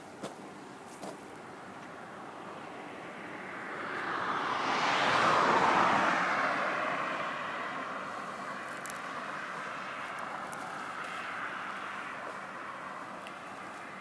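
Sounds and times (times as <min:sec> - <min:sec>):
vehicle passing by: 0:02.1 - 0:14.0.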